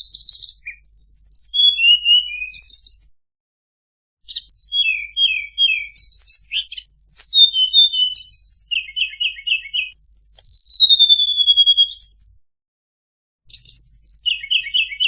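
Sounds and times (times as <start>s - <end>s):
songbird singing: 0.0s - 3.2s, 4.2s - 12.4s, 13.5s - 15.0s.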